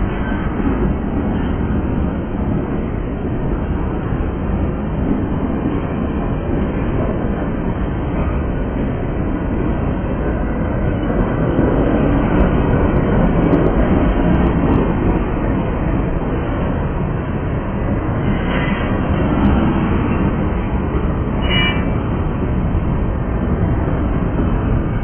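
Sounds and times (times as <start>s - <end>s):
steel wheels rolling on rails: 0.0s - 25.0s.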